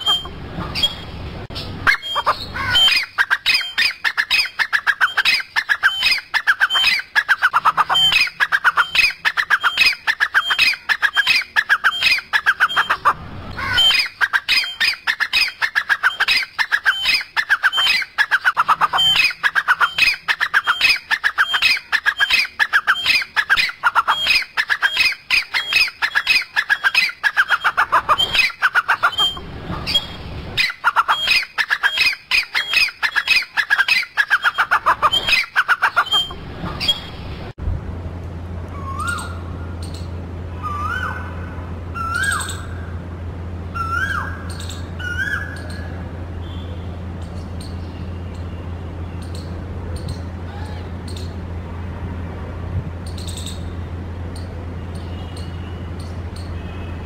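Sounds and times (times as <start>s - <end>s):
birds calling: 0.0s - 37.6s, 38.6s - 51.6s, 53.0s - 57.0s.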